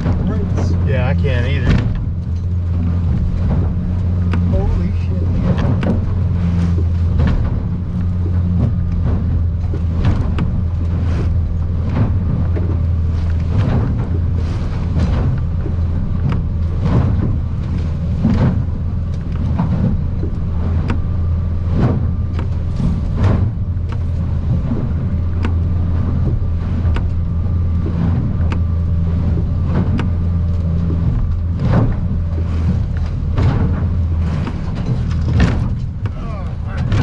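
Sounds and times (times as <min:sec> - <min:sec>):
hull knocking and water splashing: 0:00.0 - 0:37.0
outboard motor running: 0:00.0 - 0:37.0.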